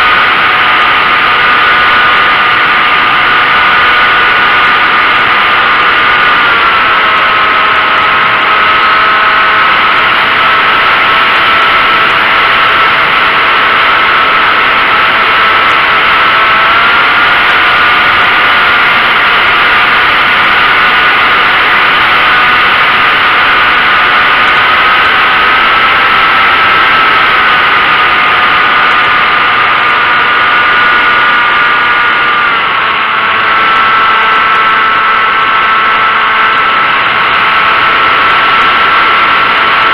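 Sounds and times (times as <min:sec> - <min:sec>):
model airplane motor whine: 0:00.0 - 0:39.9
rushing wind: 0:00.0 - 0:39.9.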